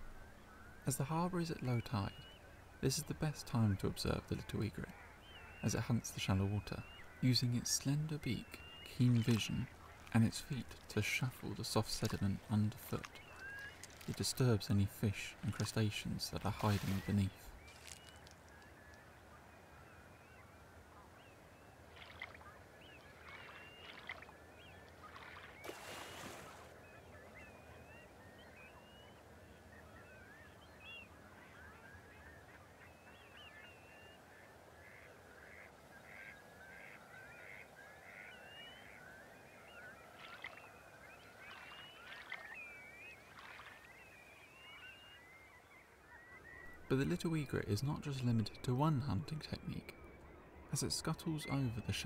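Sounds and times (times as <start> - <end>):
waterbirds honking and chattering: 0.0 - 52.0.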